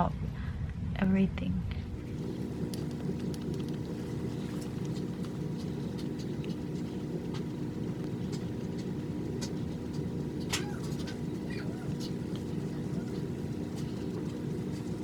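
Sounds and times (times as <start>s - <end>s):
low background hum: 0.0s - 15.0s
faint clicks: 2.0s - 15.0s.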